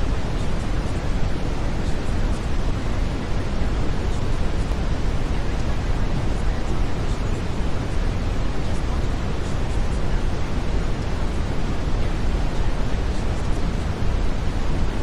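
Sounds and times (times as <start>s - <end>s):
brown noise hiss: 0.0s - 15.0s.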